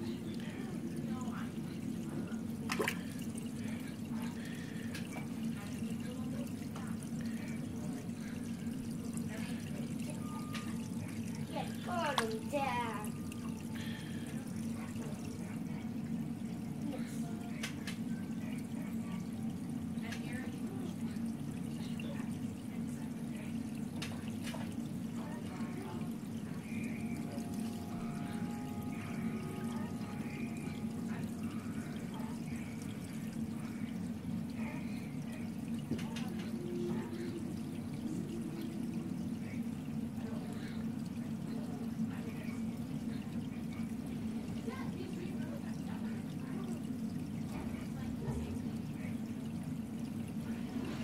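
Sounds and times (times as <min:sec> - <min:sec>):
small splashes and clicks: 0:00.0 - 0:51.0
steady low hum: 0:00.0 - 0:51.0
water trickling and dripping: 0:00.0 - 0:51.0.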